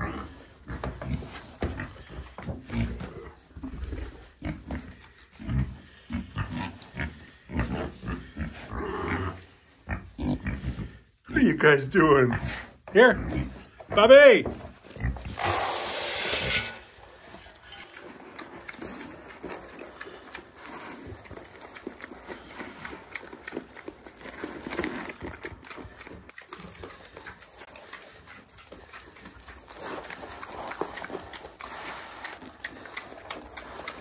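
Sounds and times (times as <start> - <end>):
pigs crunching and chewing feed: 0.0 - 34.0.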